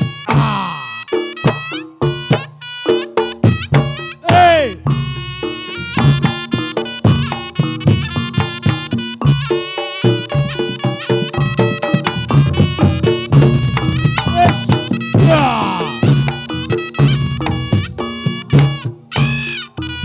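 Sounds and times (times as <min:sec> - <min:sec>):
drums beating: 0:00.0 - 0:20.0
shawm melody: 0:00.0 - 0:20.0.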